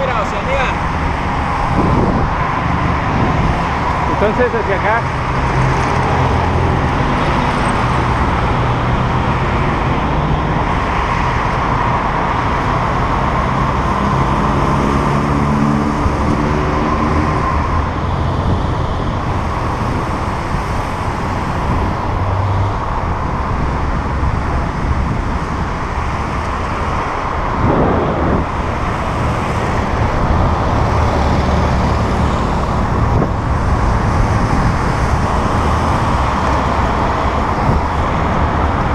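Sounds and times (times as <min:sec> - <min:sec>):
passing cars and buses: 0:00.0 - 0:38.9
road noise: 0:00.0 - 0:38.9.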